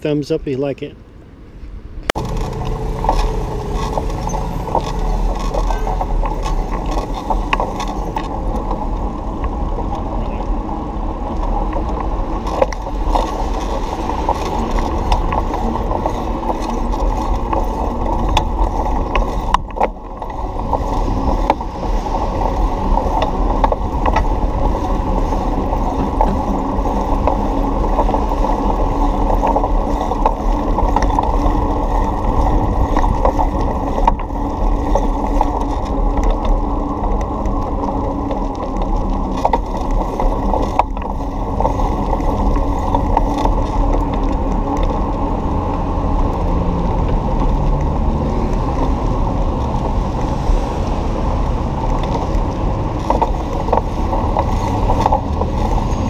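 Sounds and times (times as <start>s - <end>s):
muffled wind rumble: 0.0s - 56.0s
bicycle rattling over seams: 2.2s - 56.0s.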